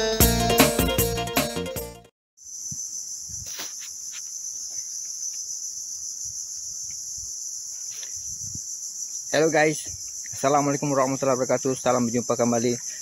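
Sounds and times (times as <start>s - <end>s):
insect chorus: 2.4s - 13.0s.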